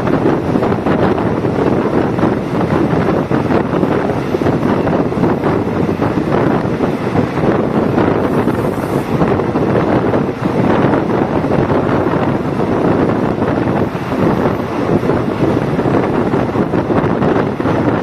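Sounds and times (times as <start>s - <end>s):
train rumbling and rattling: 0.0s - 18.0s
wind buffeting microphone: 0.0s - 18.0s.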